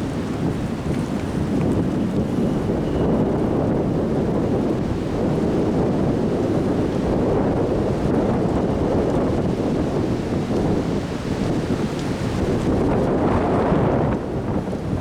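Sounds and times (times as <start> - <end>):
strong wind against microphone: 0.0 - 15.0.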